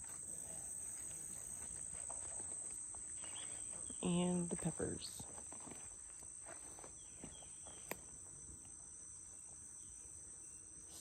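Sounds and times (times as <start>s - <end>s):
insects chirping chorus: 0.0s - 11.0s.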